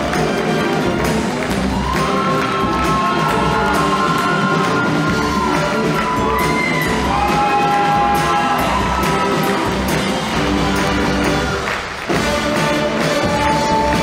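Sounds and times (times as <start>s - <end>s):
band playing upbeat music: 0.0s - 14.0s
steady drum beat: 0.0s - 14.0s.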